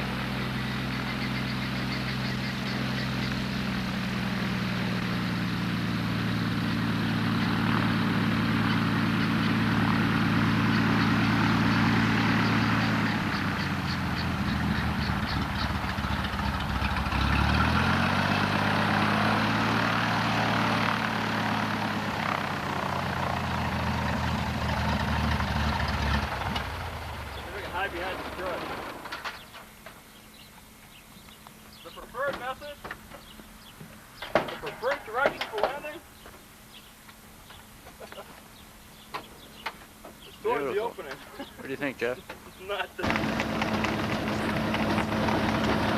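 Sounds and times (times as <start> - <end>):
light aircraft engine and propeller: 0.0 - 38.2, 38.9 - 45.9.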